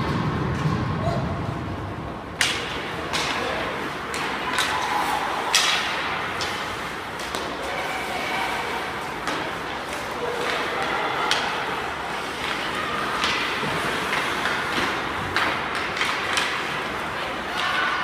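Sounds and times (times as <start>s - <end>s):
hockey sticks and puck clacking: 2.3s - 18.0s.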